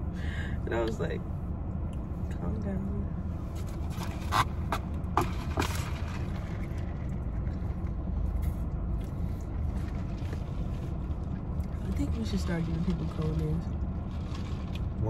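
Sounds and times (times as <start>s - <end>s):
low rumble in car cabin: 0.0s - 15.0s.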